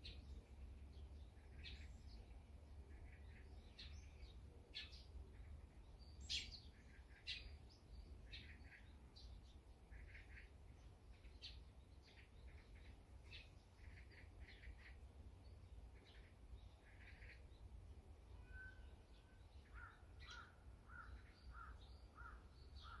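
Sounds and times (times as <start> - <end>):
wild bird calls: 1.3 - 7.6, 8.2 - 17.7, 18.3 - 23.0.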